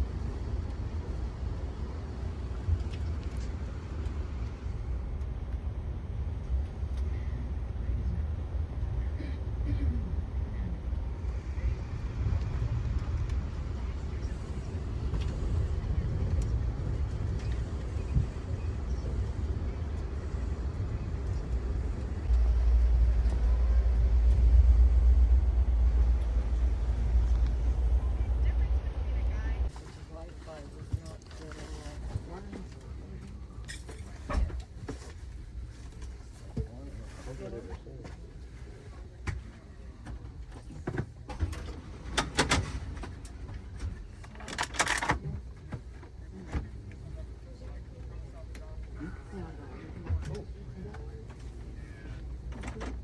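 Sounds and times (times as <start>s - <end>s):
train rumble heard on board: 0.0s - 53.0s.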